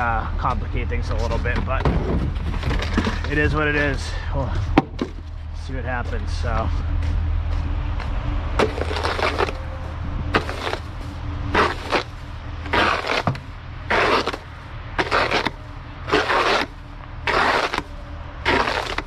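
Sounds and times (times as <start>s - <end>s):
snow crunching: 0.0s - 19.0s
truck idling hum: 0.0s - 19.0s.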